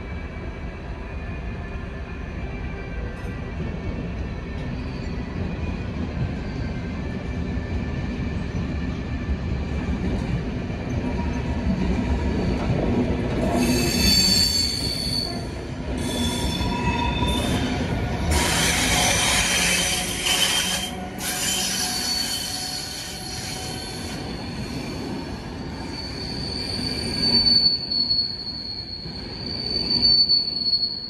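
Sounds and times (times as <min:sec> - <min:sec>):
freight train rumbling: 0:00.0 - 0:30.2
train wheels squealing: 0:01.1 - 0:09.8, 0:10.7 - 0:31.0.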